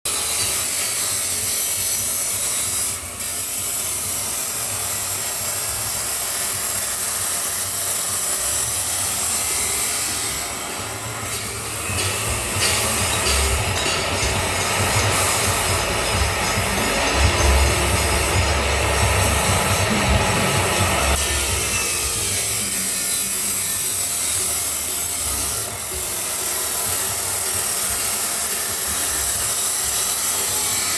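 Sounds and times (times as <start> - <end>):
grinder cutting metal pipe: 0.1 - 30.9.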